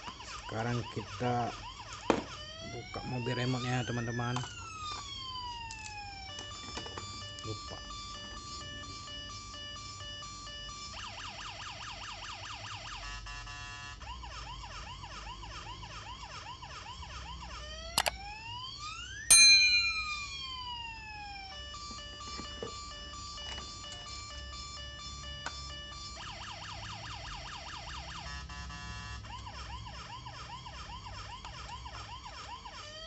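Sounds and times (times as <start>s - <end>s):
toy siren beeping tones: 0.0s - 33.0s
toy siren rising wails: 0.0s - 33.0s.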